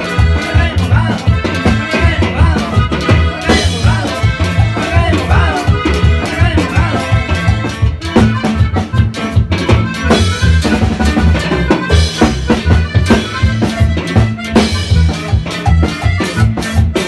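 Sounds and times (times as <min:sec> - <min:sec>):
band playing latin dance music: 0:00.0 - 0:17.0
drum kit beat: 0:00.0 - 0:17.0
heavy bass line: 0:00.0 - 0:17.0.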